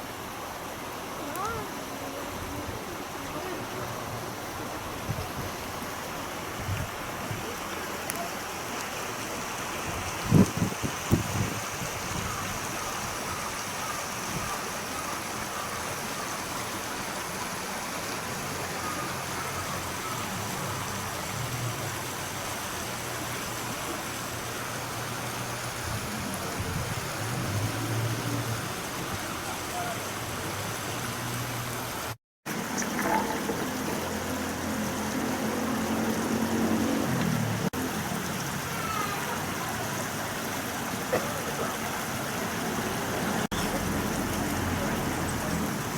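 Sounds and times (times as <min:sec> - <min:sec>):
stream babbling: 0:00.0 - 0:45.9.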